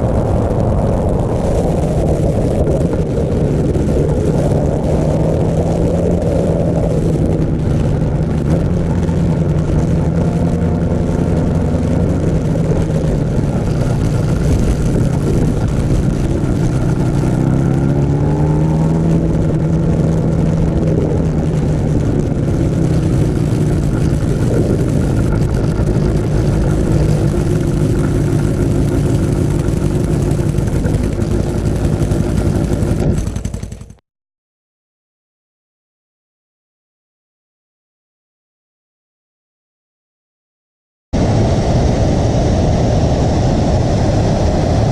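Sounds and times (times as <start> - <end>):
motorcycle engine accelerating: 0.0 - 34.0, 41.2 - 44.9
wind and road noise: 0.0 - 34.0, 41.1 - 44.9.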